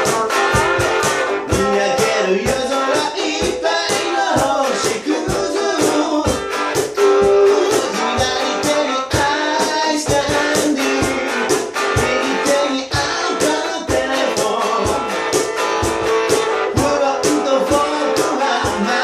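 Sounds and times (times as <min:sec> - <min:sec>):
guitars strummed: 0:00.0 - 0:19.0.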